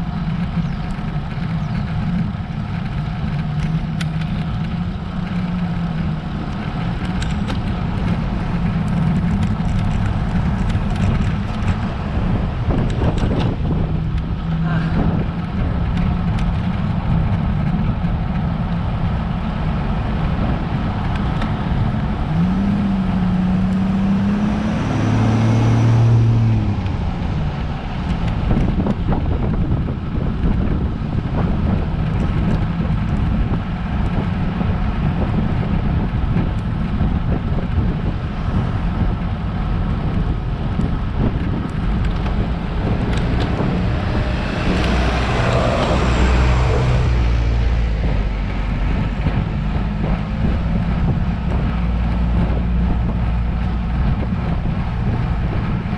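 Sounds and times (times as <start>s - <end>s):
motor vehicle passing: 0.0s - 55.9s
wind and road noise: 0.0s - 55.9s.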